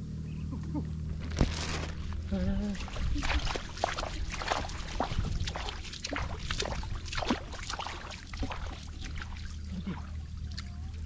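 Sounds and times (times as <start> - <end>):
steady low rumble: 0.0 - 11.0
water splashing and trickling: 1.2 - 11.0.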